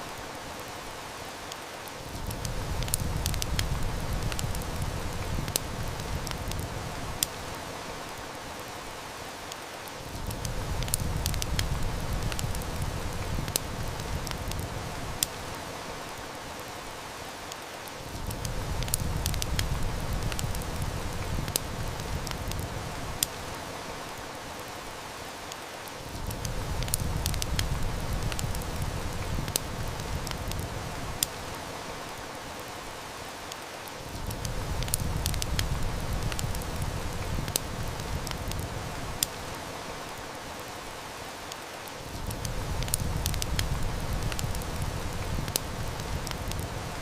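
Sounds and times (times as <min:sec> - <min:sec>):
heavy rain: 0:00.0 - 0:47.0
wood fire crackling: 0:00.0 - 0:47.0.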